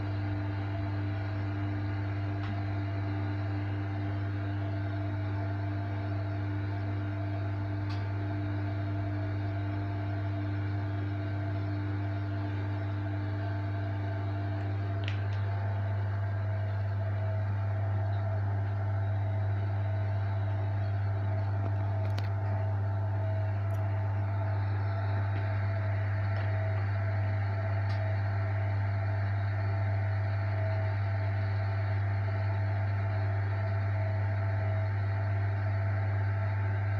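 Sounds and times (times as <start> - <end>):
washing machine spinning: 0.0 - 36.9.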